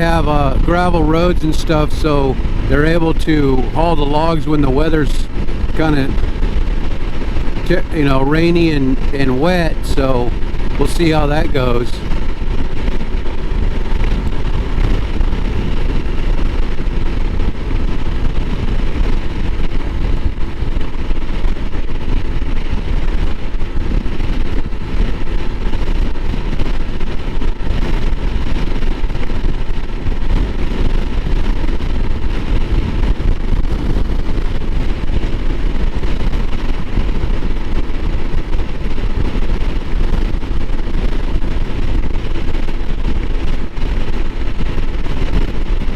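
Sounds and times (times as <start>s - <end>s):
motorcycle engine running: 0.0s - 45.9s
wind rush on microphone: 0.0s - 45.9s.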